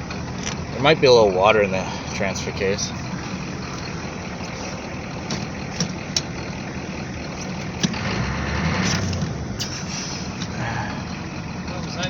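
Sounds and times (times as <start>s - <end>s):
diesel engine running at low revs: 0.0s - 12.0s.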